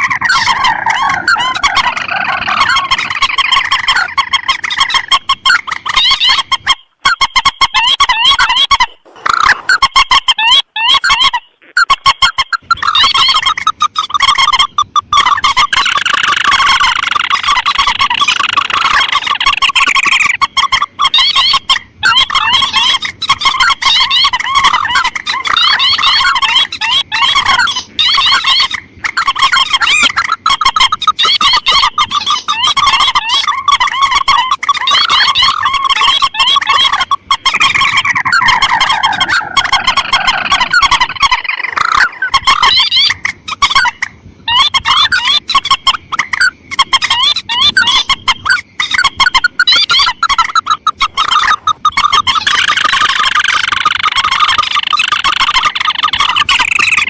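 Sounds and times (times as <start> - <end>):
rail and crake calls: 0.0 - 57.0.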